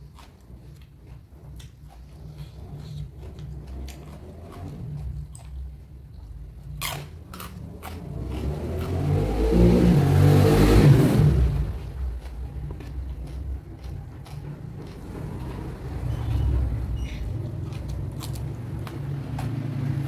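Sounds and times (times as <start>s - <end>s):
person chewing raw vegetables: 0.0s - 20.0s.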